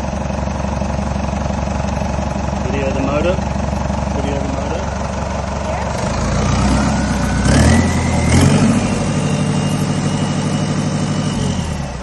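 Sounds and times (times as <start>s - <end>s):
diesel engine revving: 0.0s - 12.0s
engine whine: 0.0s - 12.0s.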